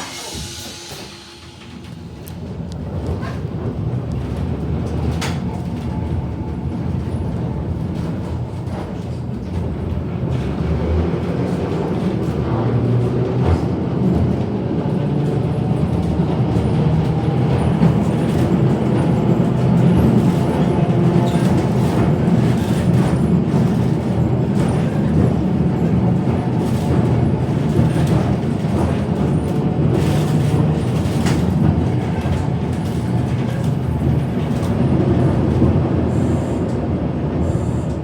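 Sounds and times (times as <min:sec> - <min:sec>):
tram rumbling on rails: 0:00.0 - 0:38.0.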